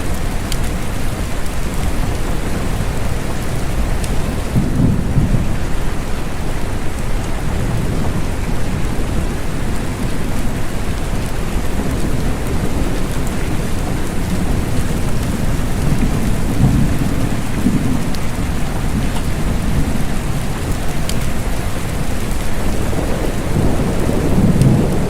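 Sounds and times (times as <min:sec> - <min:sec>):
low thunder rumble: 0:00.0 - 0:25.0
steady rain falling: 0:00.0 - 0:25.0.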